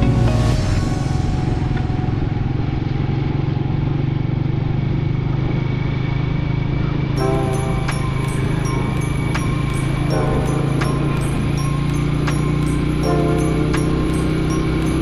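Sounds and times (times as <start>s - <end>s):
motorcycle engine humming: 0.0s - 15.0s
road and wind noise: 0.0s - 15.0s.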